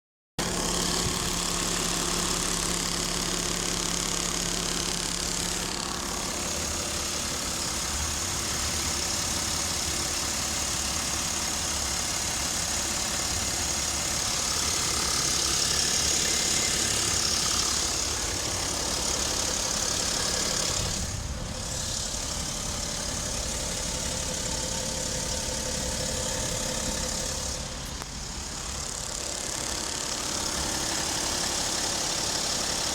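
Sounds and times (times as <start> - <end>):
diesel engine idling: 0.4 - 32.9
steady engine hiss: 0.4 - 32.9.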